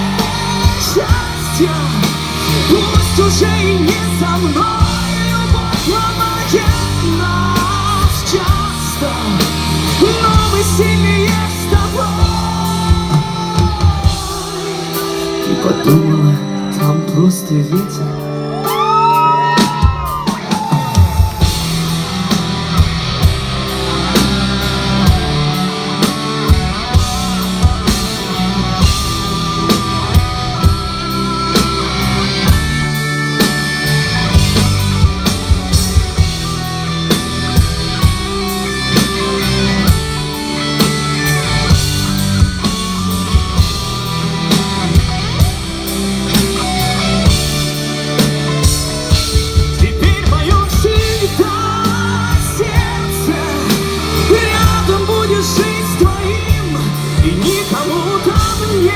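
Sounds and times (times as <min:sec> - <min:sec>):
rock band playing: 0:00.0 - 0:58.9.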